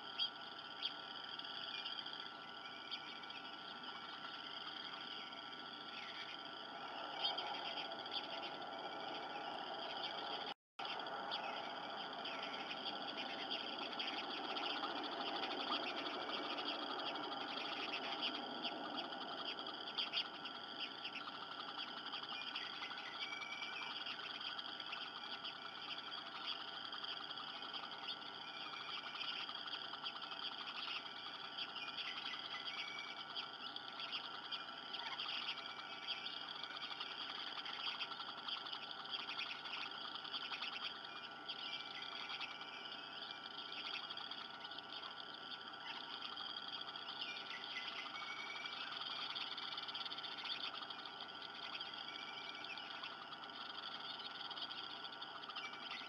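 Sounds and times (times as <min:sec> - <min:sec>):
high bird chirps: 0:00.0 - 0:56.0.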